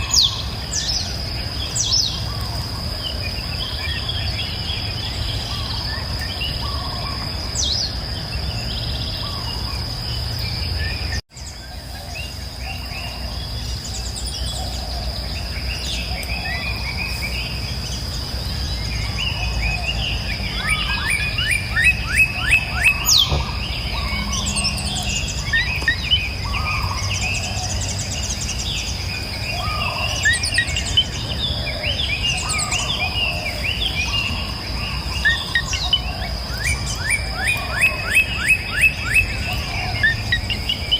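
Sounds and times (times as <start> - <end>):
birds singing and chirping: 0.0 - 40.9
high-pitched insect drone: 0.0 - 40.9.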